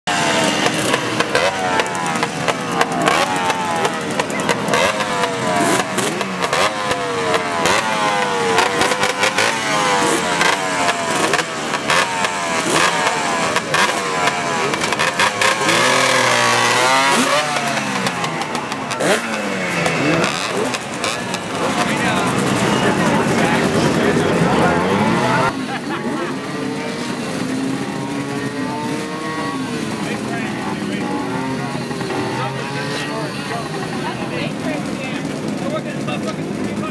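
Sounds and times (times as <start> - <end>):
two-stroke engine revving: 0.1 - 36.9.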